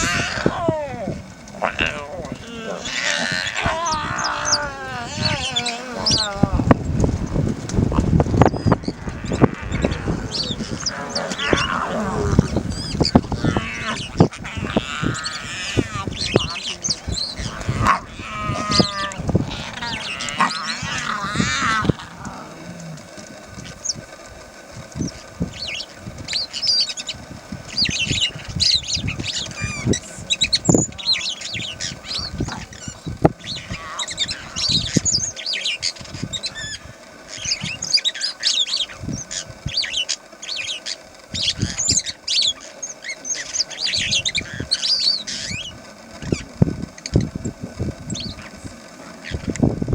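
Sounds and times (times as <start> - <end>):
birds chirping: 0.0 - 49.9.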